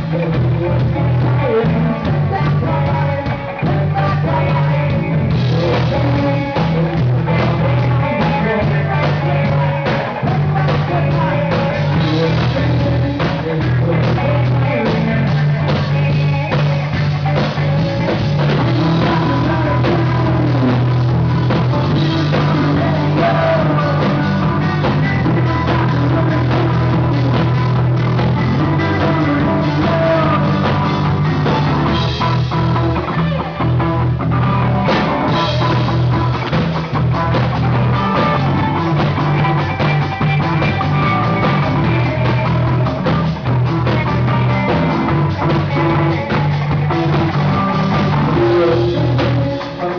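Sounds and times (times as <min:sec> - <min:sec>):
person singing: 0:00.0 - 0:49.9
rock band playing live: 0:00.0 - 0:49.9.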